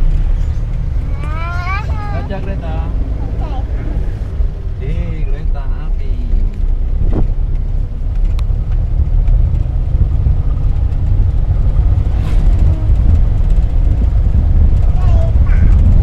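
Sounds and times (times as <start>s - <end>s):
engine rumble: 0.0s - 16.0s
road noise: 0.0s - 16.0s.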